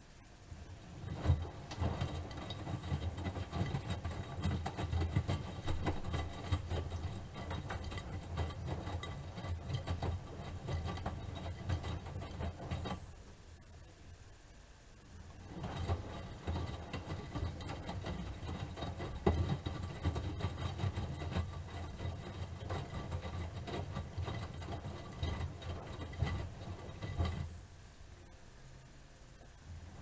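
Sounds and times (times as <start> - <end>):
quiet hum: 0.0 - 30.0
washing machine motor rumble: 0.2 - 14.3, 14.9 - 30.0.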